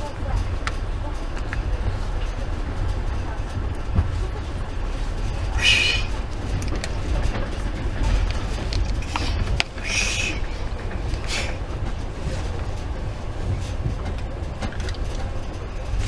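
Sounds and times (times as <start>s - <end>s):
train rumble inside carriage: 0.0s - 16.0s.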